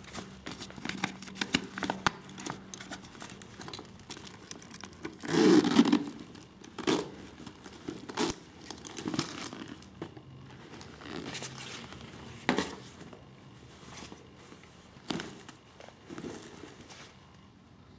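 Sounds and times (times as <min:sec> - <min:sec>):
handbag rustling and crinkling: 0:00.0 - 0:17.3
fabric bag rustling: 0:01.7 - 0:17.3.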